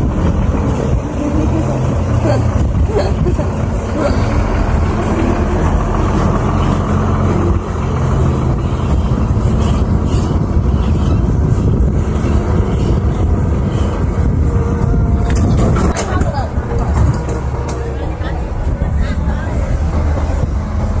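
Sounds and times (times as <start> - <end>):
dump truck diesel engine: 0.0 - 21.0
excavator diesel engine: 0.0 - 21.0.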